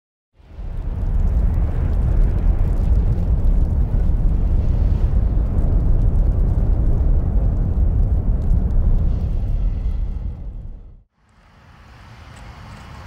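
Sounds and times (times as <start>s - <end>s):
loud low rumble: 0.4s - 11.1s.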